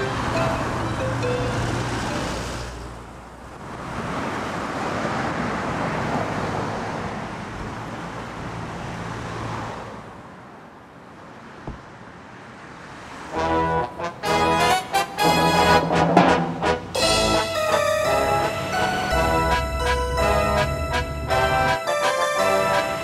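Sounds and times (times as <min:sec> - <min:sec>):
passing traffic noise: 0:00.0 - 0:23.0.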